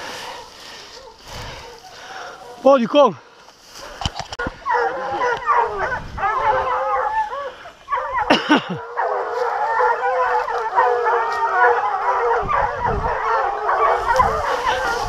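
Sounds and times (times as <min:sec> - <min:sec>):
hounds baying: 0:00.0 - 0:02.9, 0:03.8 - 0:15.0.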